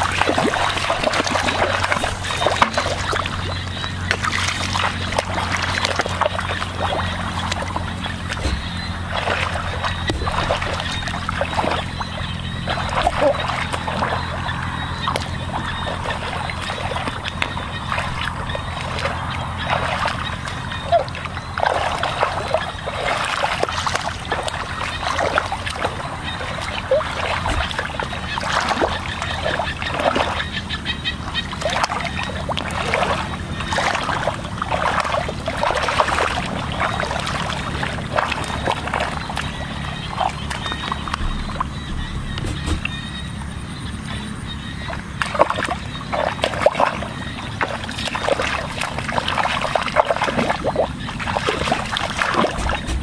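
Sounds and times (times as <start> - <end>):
sloshing through muddy water: 0.0 - 53.0
steady low hum: 0.0 - 53.0
water splashes: 0.0 - 53.0.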